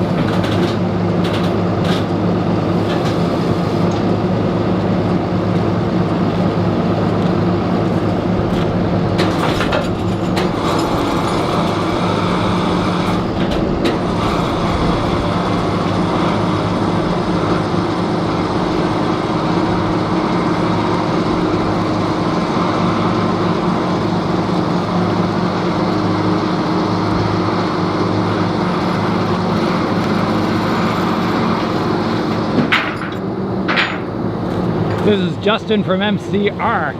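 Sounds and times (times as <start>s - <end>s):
truck engine running steadily: 0.0s - 36.9s.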